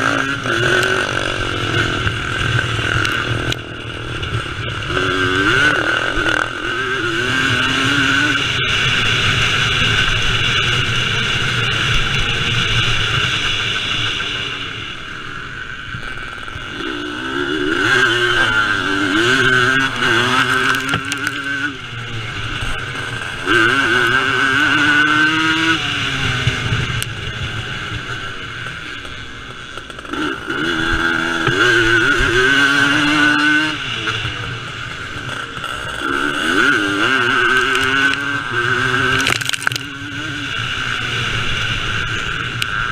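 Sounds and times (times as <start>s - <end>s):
motocross engines revving: 0.0s - 42.9s.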